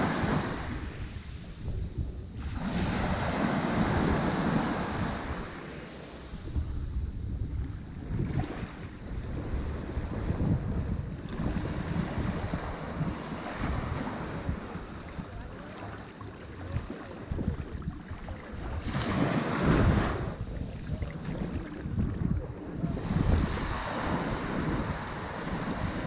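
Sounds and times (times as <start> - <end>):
ocean waves breaking on shore: 0.0 - 26.0
wind noise on microphone: 0.0 - 26.0.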